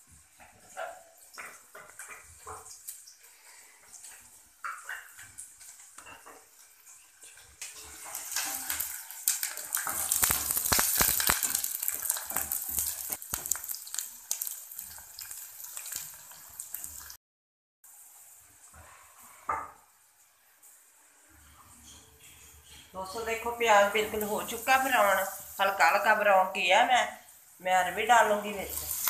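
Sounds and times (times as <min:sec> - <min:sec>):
onions sizzling in hot oil: 0:00.0 - 0:17.2, 0:17.9 - 0:19.0, 0:22.8 - 0:29.0.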